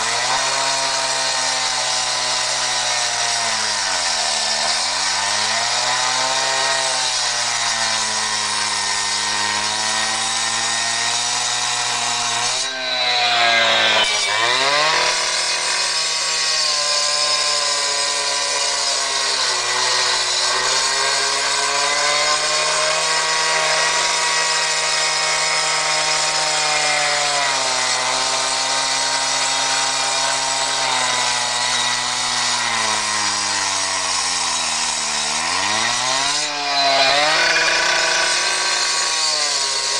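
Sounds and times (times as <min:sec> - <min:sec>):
cut-off saw cutting concrete: 0:00.0 - 0:39.9.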